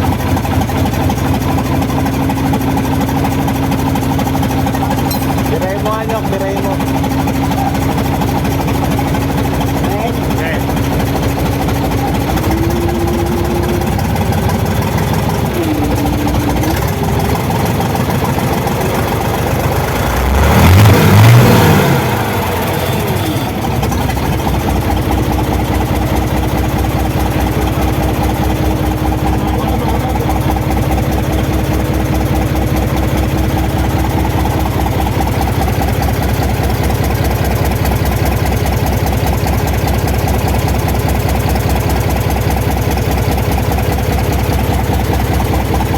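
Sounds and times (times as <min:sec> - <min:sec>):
diesel engine revving and idling: 0:00.0 - 0:45.9.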